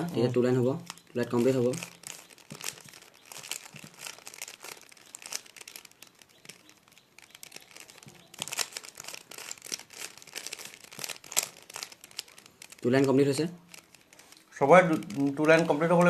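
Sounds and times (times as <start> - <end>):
plastic cube clicking as turned: 0.8 - 16.0.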